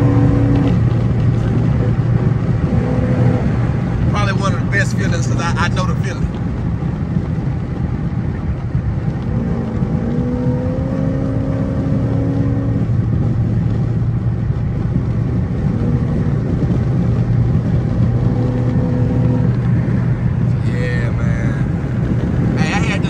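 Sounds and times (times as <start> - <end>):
car engine drone: 0.0 - 23.0
tyre and road noise: 0.0 - 23.0.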